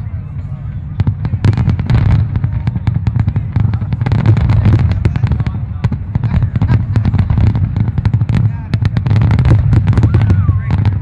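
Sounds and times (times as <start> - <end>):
fireworks bangs and pops: 0.9 - 11.0.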